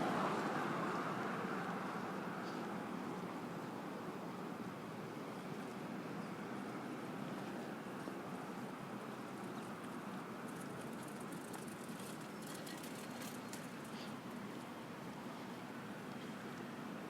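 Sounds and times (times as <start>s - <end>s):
traffic hum: 0.0s - 17.0s.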